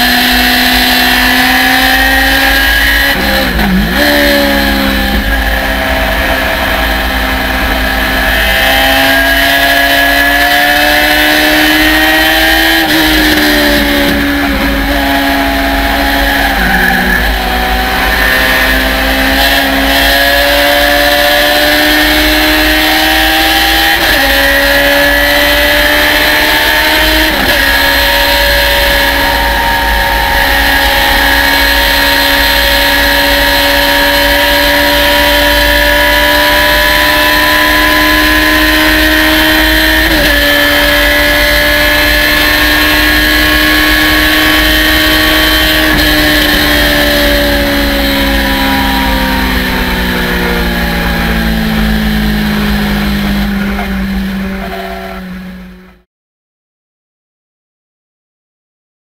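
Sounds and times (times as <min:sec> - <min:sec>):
race car engine at full throttle: 0:00.0 - 0:56.1.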